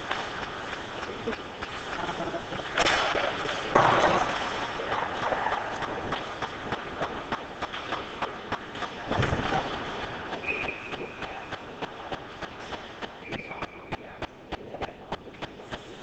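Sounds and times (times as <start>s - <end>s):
hockey sticks and puck clacking: 0.0s - 16.0s
skate blades scraping ice: 0.0s - 16.0s.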